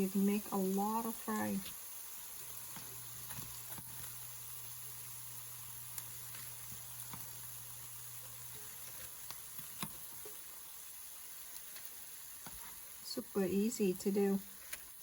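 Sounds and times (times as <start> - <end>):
fries sizzling in hot oil: 0.0 - 15.0.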